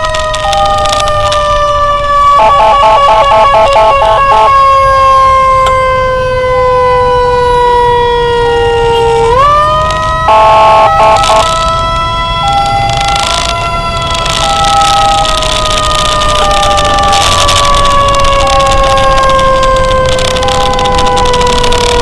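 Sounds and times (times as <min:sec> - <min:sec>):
electronic emergency sirens: 0:00.0 - 0:22.0
road and engine noise: 0:00.0 - 0:22.0.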